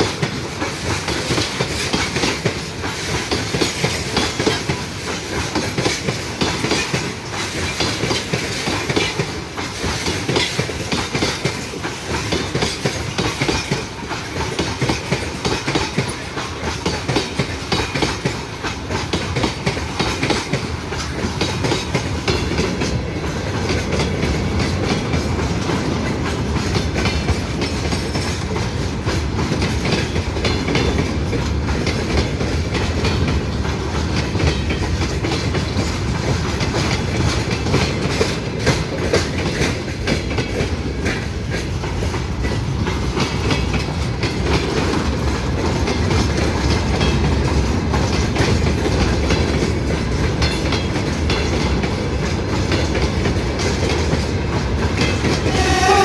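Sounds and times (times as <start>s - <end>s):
train wheels clacking over rail joints: 0.0s - 56.0s.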